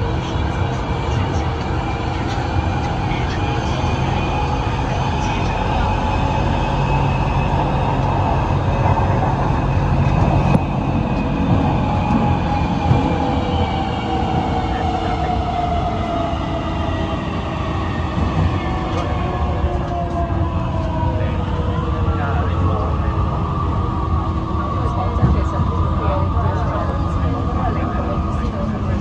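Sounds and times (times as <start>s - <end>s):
train wheel and tunnel rumble: 0.0s - 29.0s.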